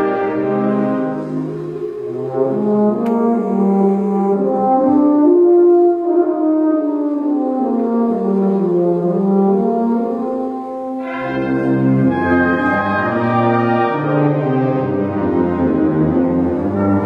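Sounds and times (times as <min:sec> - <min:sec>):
wind band playing: 0:00.0 - 0:17.0.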